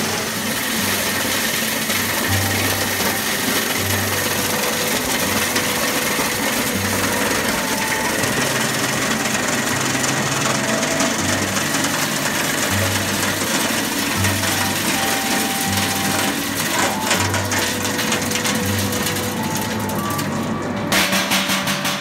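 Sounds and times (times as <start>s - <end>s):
coffee beans rattling in drum: 0.0s - 22.0s.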